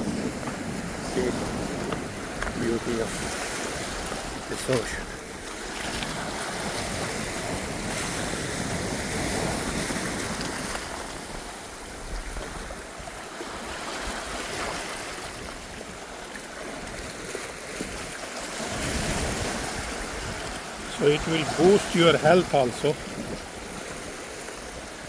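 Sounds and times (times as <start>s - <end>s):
ocean waves washing on shore: 0.0s - 25.0s
wind rumbling on microphone: 0.0s - 25.0s.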